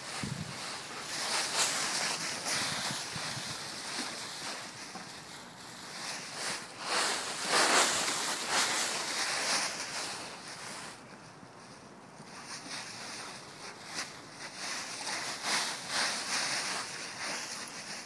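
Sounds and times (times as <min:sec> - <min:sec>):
dry leaves rustling: 0:00.0 - 0:18.0.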